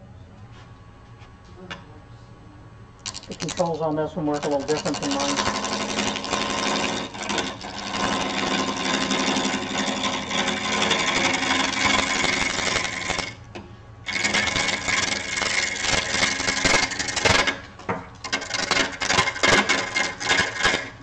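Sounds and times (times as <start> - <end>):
lathe hum: 3.0 - 21.0.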